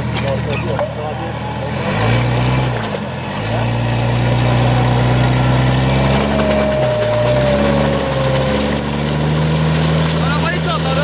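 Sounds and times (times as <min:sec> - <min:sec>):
engine revving under load: 0:01.0 - 0:11.0
wheels spinning in snow: 0:01.2 - 0:11.0.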